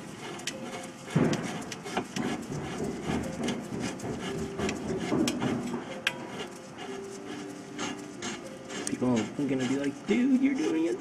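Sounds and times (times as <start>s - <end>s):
metallic clicks and scraping: 0.0s - 11.0s.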